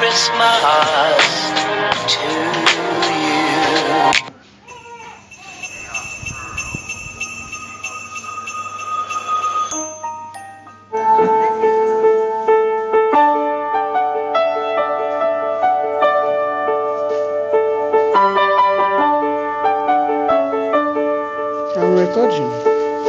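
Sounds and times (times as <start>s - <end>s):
background piano music: 0.0s - 4.3s, 6.8s - 23.0s.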